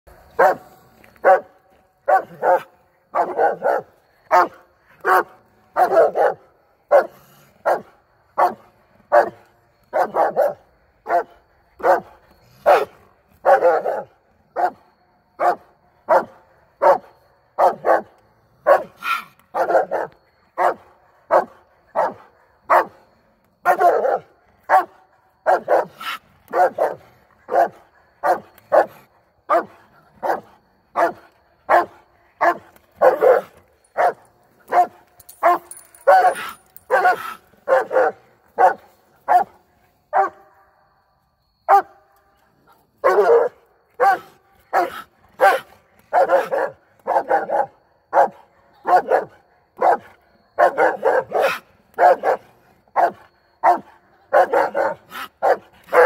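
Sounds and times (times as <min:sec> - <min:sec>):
dog barking: 0:00.4 - 0:01.5, 0:02.1 - 0:12.1, 0:12.7 - 0:14.8, 0:15.4 - 0:23.0, 0:23.6 - 0:40.4, 0:41.7 - 0:42.0, 0:43.0 - 0:56.0.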